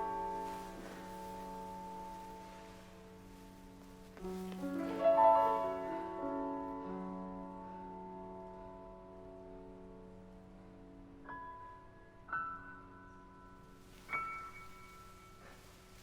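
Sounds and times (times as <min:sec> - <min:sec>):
improvised piano music: 0:00.0 - 0:16.0.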